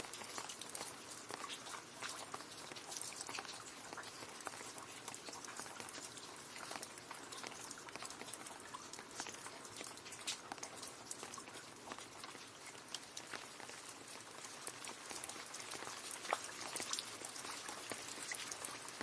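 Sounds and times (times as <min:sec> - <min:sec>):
drips splashing in puddle: 0:00.0 - 0:19.0.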